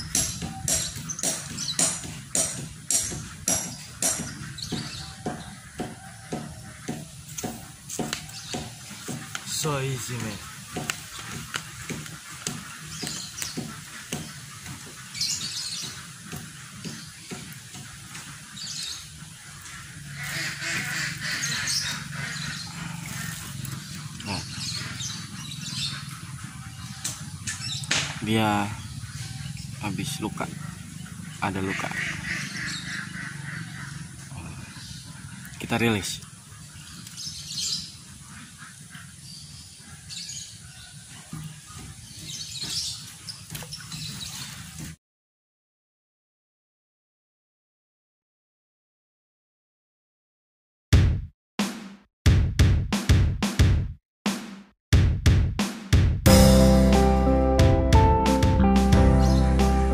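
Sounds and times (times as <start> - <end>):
birds calling: 0.0 - 45.0, 56.3 - 59.9.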